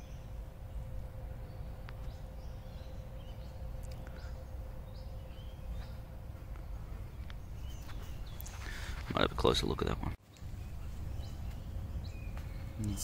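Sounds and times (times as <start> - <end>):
birds chirping: 0.0 - 13.0
faint steady hum: 0.0 - 13.0
low steady rumble: 0.0 - 13.0.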